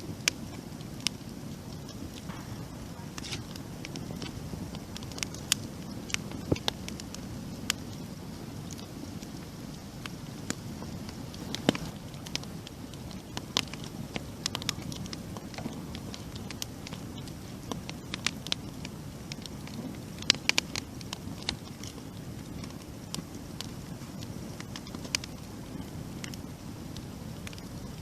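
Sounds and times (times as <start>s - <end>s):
fire crackles and pops: 0.0s - 28.0s
low rush of flame: 0.0s - 28.0s.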